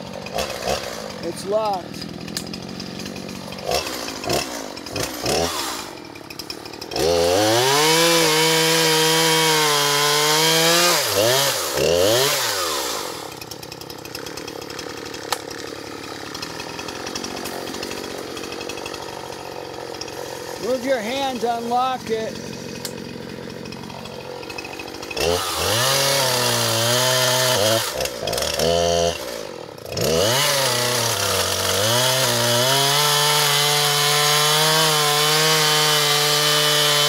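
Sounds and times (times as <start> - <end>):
chainsaw running and revving: 0.0 - 37.0.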